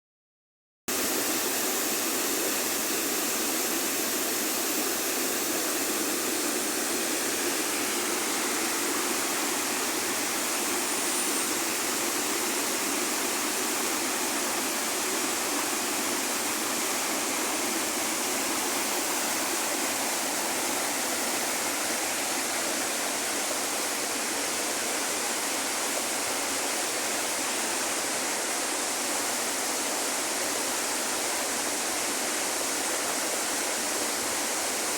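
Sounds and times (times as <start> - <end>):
river water flowing: 0.9 - 34.9.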